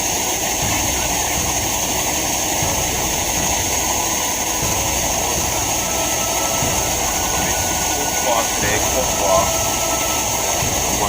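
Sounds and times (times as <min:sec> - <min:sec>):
camp stove burner hissing: 0:00.0 - 0:11.0.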